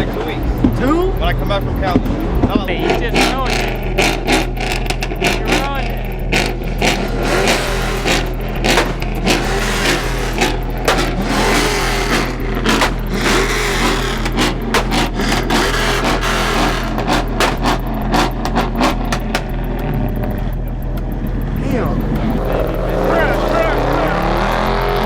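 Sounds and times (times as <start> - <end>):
car engines revving: 0.0 - 25.0
sharp cracks: 0.0 - 25.0.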